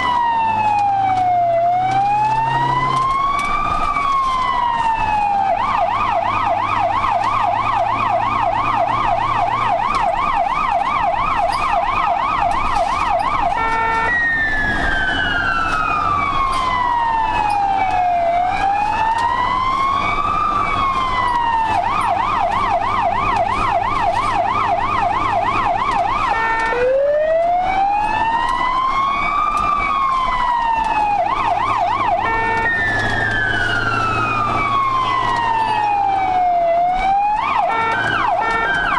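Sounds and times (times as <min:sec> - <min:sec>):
ambulance siren yelp and wail: 0:00.0 - 0:38.9
vehicle engine humming: 0:00.0 - 0:38.9.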